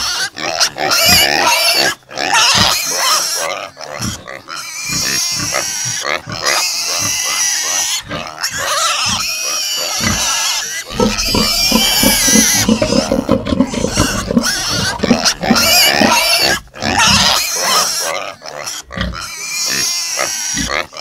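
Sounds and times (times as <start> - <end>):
pigs grunting: 0.0 - 21.0.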